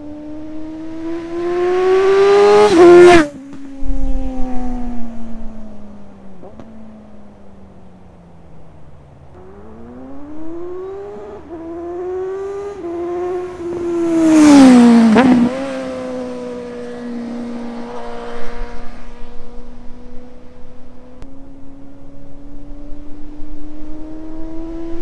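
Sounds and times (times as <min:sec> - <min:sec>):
motorcycle accelerating past: 0:00.0 - 0:07.7, 0:09.4 - 0:25.0.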